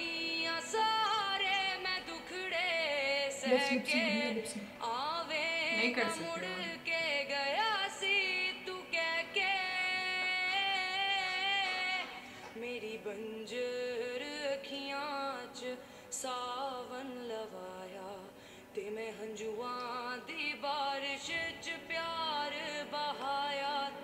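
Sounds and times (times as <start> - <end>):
woman singing slow song: 0.0 - 24.0.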